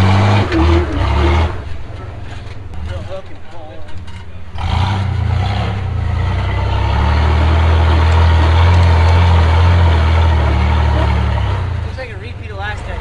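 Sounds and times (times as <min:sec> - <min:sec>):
buggy engine running: 0:00.0 - 0:13.0.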